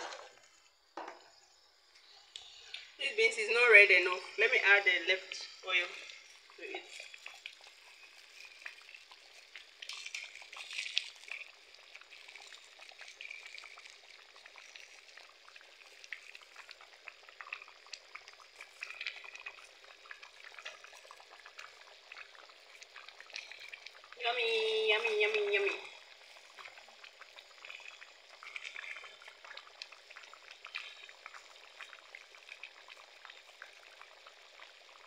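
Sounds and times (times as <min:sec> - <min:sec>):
pot bubbling and sizzling: 0:00.0 - 0:35.0.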